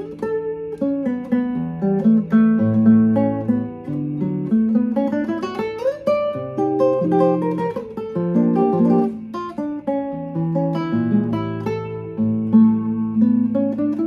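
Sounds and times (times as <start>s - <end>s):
fingerstyle classical guitar: 0.0s - 14.0s.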